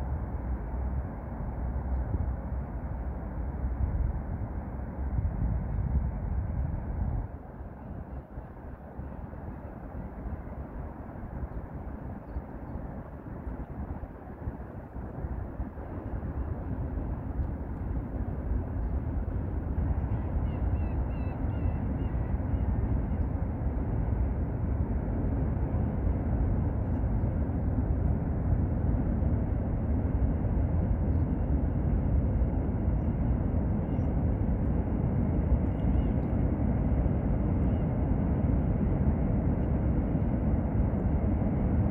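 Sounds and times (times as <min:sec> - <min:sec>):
distant city traffic: 0:00.0 - 0:41.9
wind on microphone: 0:00.0 - 0:41.9.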